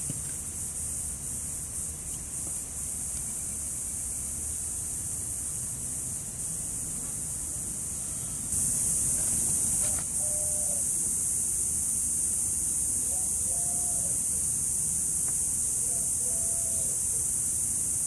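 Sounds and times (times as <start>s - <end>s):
high-pitched electronic hiss: 0.0s - 18.0s.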